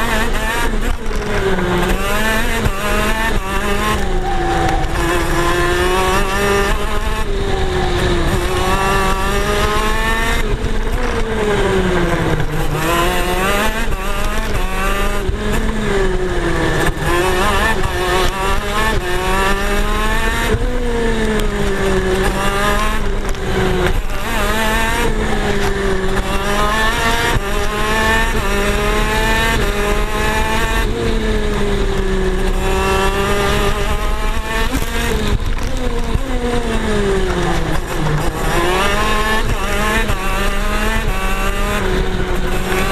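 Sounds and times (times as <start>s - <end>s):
kart engine at race pace: 0.0s - 42.9s.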